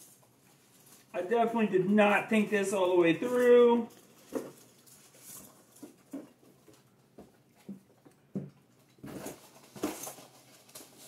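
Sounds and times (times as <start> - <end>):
packing peanuts and cardboard rustling: 0.0 - 6.9, 9.0 - 11.0.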